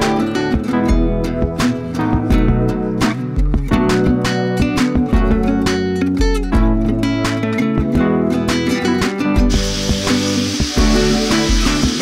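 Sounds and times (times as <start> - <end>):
bass line: 0.0 - 8.4, 9.2 - 12.0
strummed acoustic guitar: 0.0 - 12.0.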